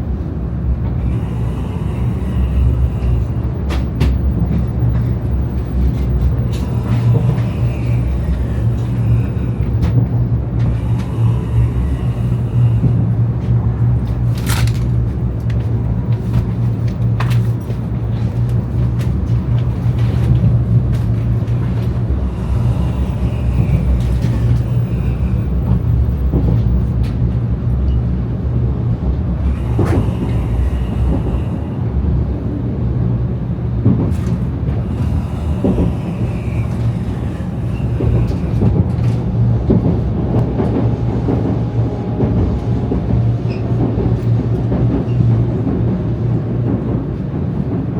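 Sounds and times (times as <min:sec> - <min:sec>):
train interior rumble: 0:00.0 - 0:47.9.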